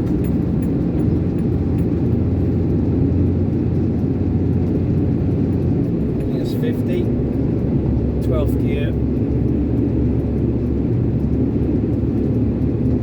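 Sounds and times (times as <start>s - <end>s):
lorry diesel engine: 0.0s - 13.0s
road noise: 0.0s - 13.0s.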